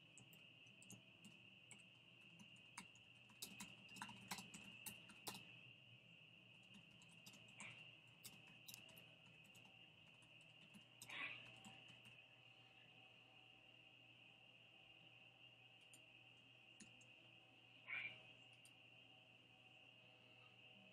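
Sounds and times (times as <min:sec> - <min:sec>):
distant animal chorus drone: 0:00.0 - 0:20.9.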